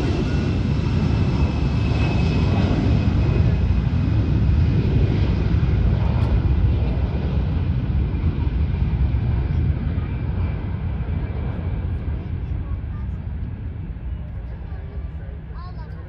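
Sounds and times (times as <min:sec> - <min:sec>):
faint jet whine: 0:00.0 - 0:16.0
jet engines rumbling: 0:00.0 - 0:16.0.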